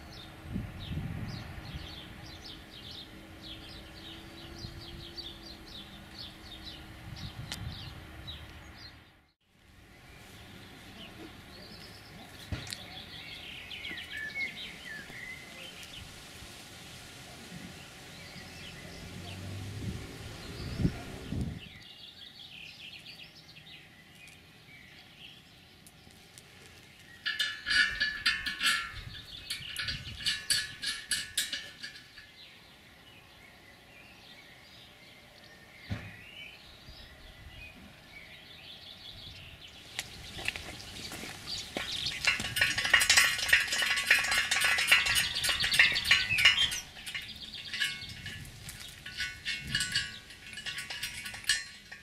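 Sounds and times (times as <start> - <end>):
birds chirping: 0.0 - 16.2, 17.7 - 52.0.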